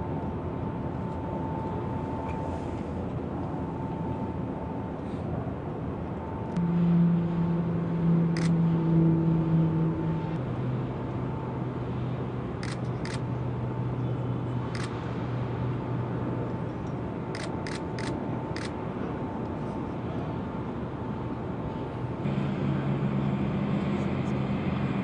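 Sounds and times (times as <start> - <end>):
crane machinery humming: 0.0 - 25.0.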